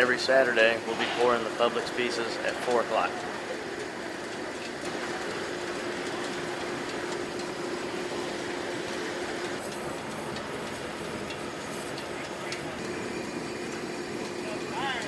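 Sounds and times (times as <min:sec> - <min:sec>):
constant hum: 0:00.0 - 0:15.0
furnace rushing noise: 0:00.0 - 0:15.0.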